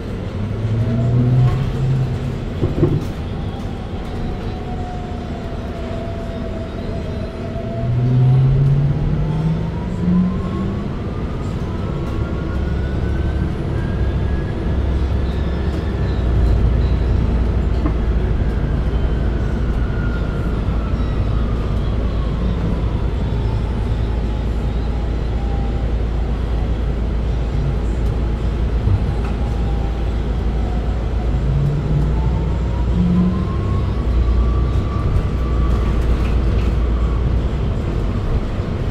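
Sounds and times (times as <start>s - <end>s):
low diesel engine drone: 0.0s - 38.9s.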